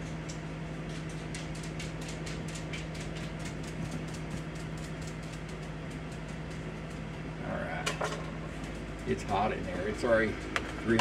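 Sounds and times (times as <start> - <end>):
air fryer fan humming: 0.0 - 11.0.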